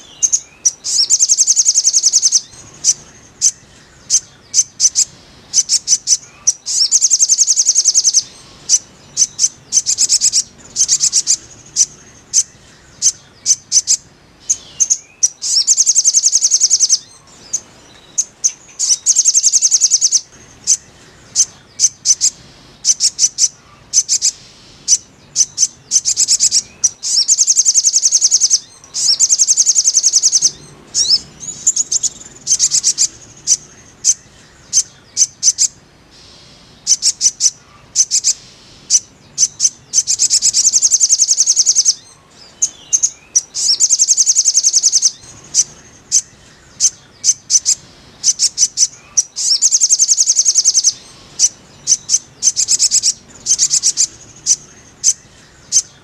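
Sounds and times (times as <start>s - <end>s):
bird trilling: 0.0s - 56.0s.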